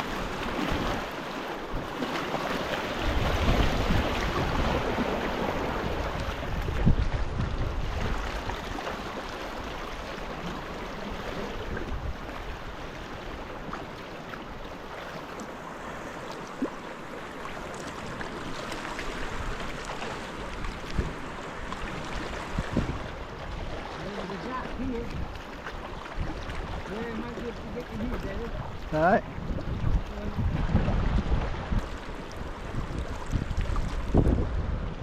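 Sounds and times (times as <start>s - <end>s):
water splashing around kayak: 0.0s - 35.0s.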